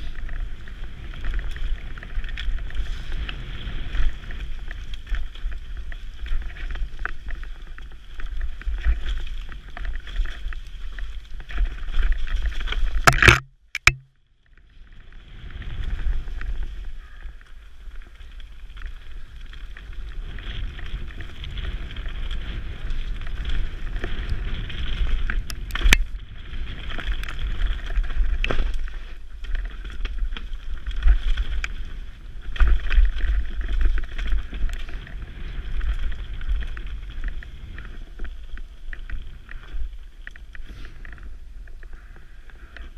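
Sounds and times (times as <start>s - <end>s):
bike knocking and rattling: 0.0s - 14.1s, 15.8s - 42.9s
bike tyre noise on dirt: 0.0s - 42.9s.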